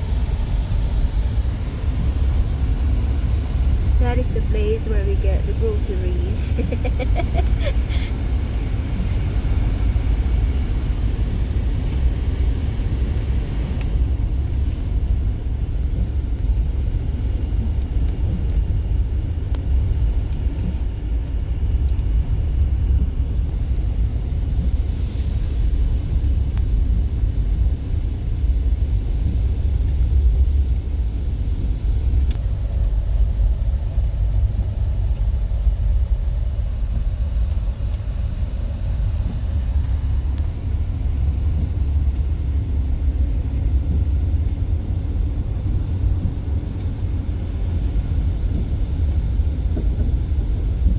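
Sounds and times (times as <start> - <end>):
vehicle interior rumble: 0.0 - 50.9.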